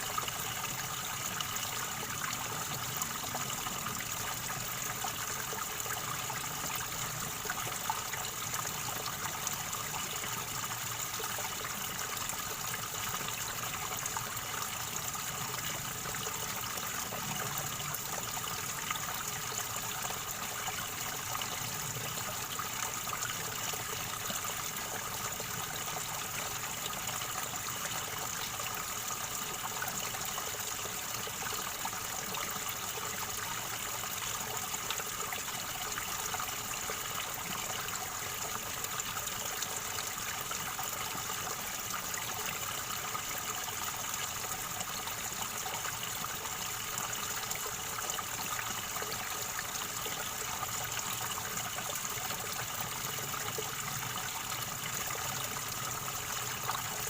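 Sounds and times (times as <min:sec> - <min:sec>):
river water gurgling: 0:00.0 - 0:57.0.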